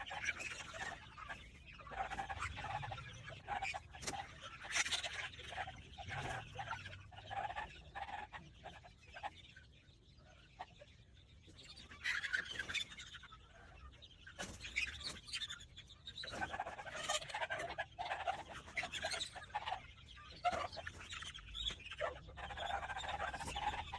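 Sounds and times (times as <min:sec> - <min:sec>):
chicks cheeping: 0:00.0 - 0:23.9.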